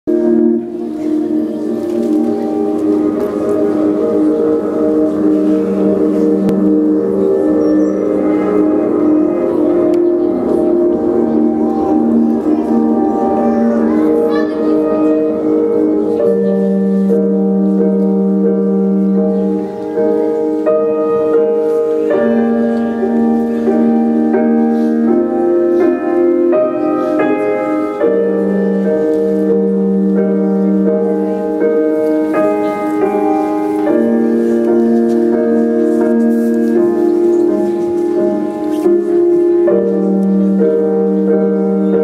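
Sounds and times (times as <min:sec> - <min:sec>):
slow instrumental melody: 0:00.1 - 0:42.0.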